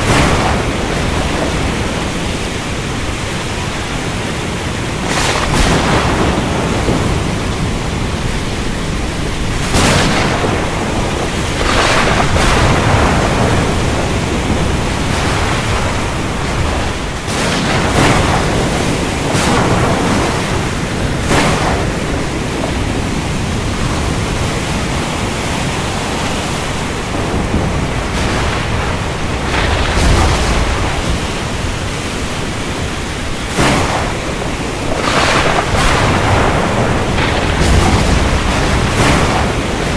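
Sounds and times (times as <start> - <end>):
heavy rain: 0.0 - 39.9
lightning crackles: 0.0 - 39.9
rolling thunder: 0.0 - 39.9.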